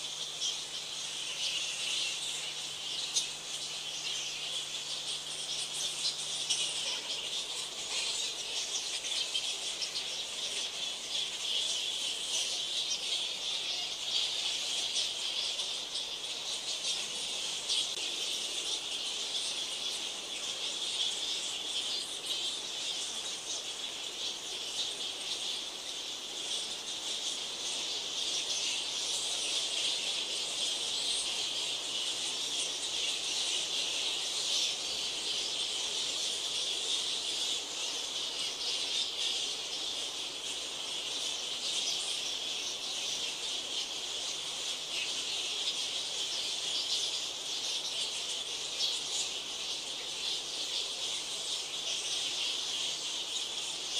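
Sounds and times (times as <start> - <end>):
fruit bat colony squeaking: 0.0 - 53.9.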